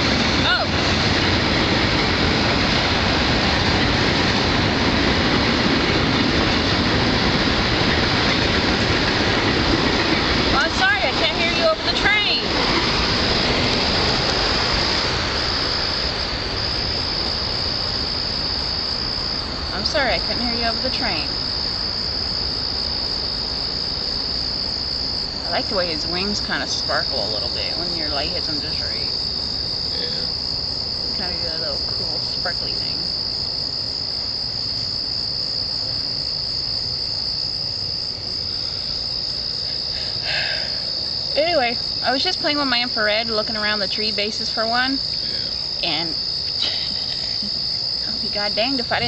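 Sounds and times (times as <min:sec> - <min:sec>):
night insects chorus: 0:00.0 - 0:49.0
passing train rumble: 0:00.0 - 0:49.0.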